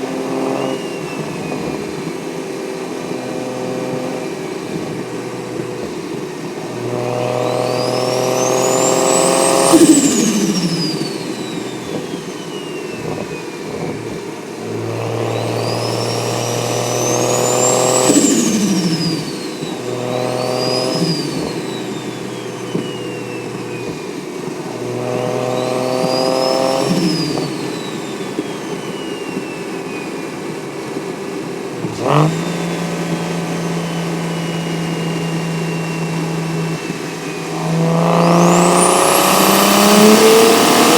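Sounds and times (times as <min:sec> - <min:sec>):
car engine accelerating: 0:00.0 - 0:40.9
turbo whistle: 0:00.0 - 0:40.9.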